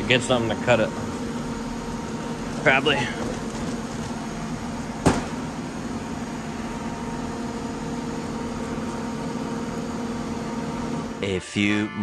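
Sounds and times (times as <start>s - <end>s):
machine humming: 0.0s - 11.4s.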